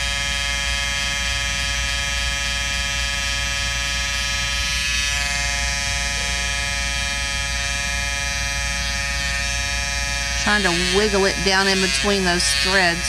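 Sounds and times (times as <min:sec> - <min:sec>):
electric clipper buzzing: 0:00.0 - 0:13.0.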